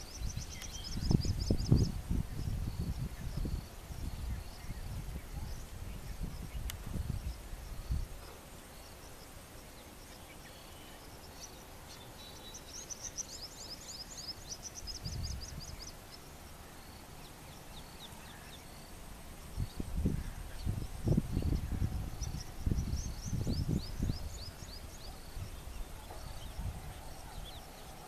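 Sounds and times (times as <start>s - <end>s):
small bird chirping: 0.0s - 18.9s, 19.6s - 28.0s.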